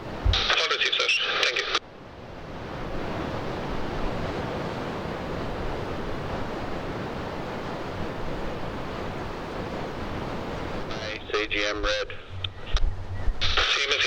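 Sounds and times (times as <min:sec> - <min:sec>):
wind rumble on microphone: 0:00.0 - 0:00.5, 0:01.9 - 0:11.2, 0:12.1 - 0:13.7
surf: 0:00.0 - 0:14.0
wind: 0:00.0 - 0:14.0.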